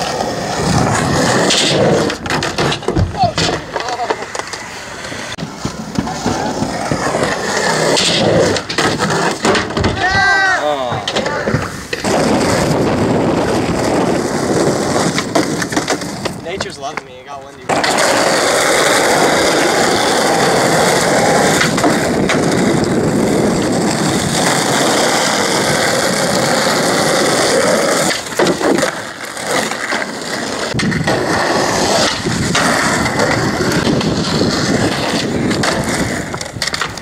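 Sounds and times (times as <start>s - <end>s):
skateboard trucks grinding concrete: 0.0s - 37.0s
skateboard wheels rolling on asphalt: 0.0s - 37.0s.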